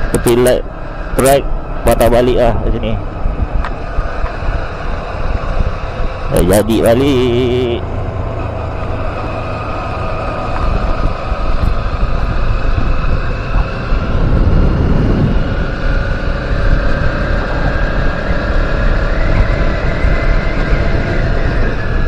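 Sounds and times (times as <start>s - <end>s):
motorcycle engine running: 0.0s - 22.0s
wind rumble on microphone: 0.0s - 22.0s.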